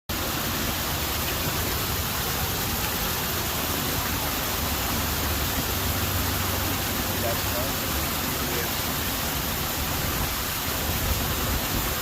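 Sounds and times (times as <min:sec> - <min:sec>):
waterfall splashing: 0:00.1 - 0:12.0.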